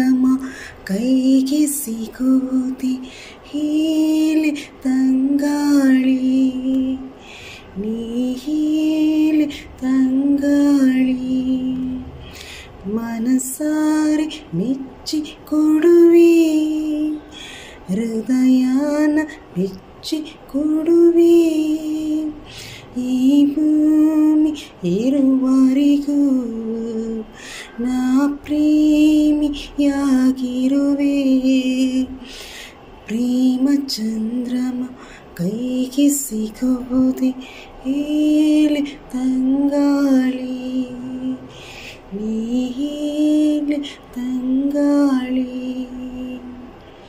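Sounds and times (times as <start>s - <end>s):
woman singing: 0.0s - 47.0s.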